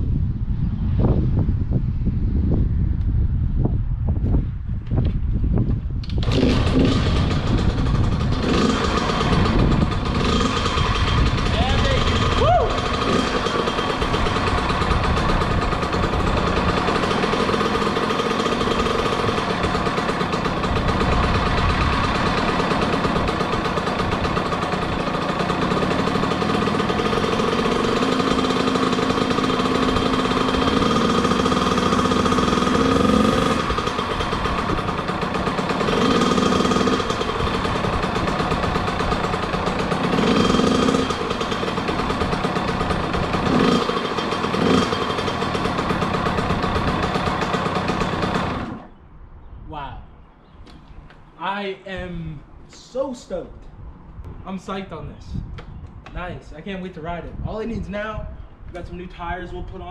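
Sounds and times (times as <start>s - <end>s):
dirt bike engine idling and revving: 0.0s - 49.6s.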